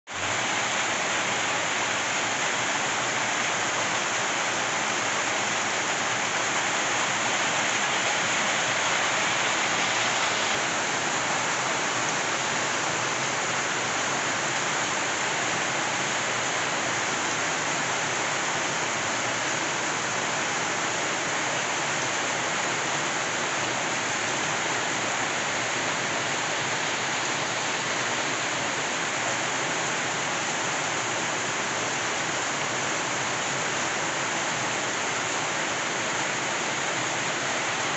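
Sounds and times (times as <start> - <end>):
rain on metal roofs: 0.1 - 37.9.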